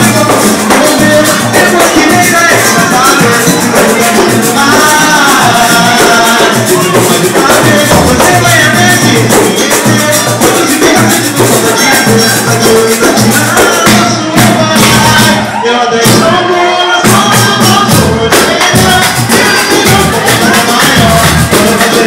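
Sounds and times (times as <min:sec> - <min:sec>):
band singing over percussion: 0:00.0 - 0:22.0
shaken percussion rhythm: 0:00.0 - 0:22.0.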